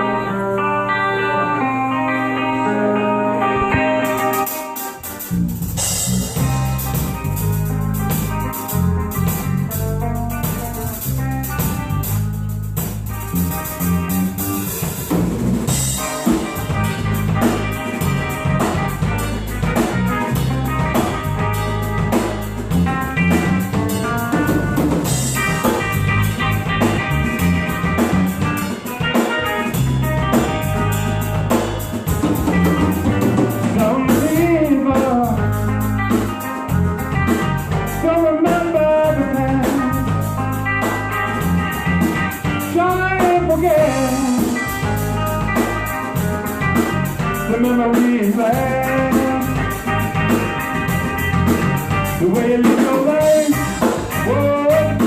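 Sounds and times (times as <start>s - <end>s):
electric guitar lead line: 0.0s - 55.0s
rock band playing: 0.0s - 55.0s.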